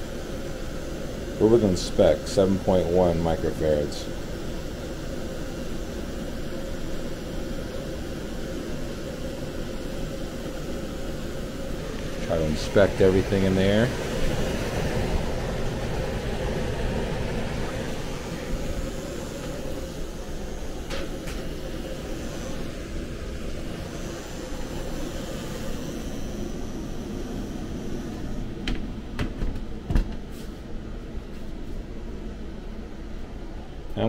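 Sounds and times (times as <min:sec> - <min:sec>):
blower rushing hum: 0:00.0 - 0:34.0.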